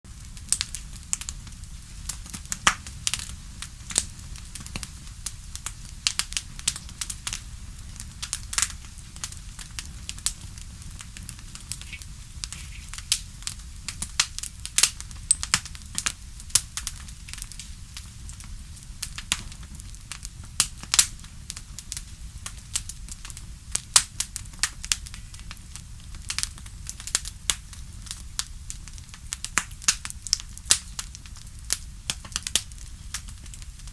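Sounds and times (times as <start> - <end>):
low fire rumble: 0.1 - 33.9
wood fire crackling: 0.1 - 33.9.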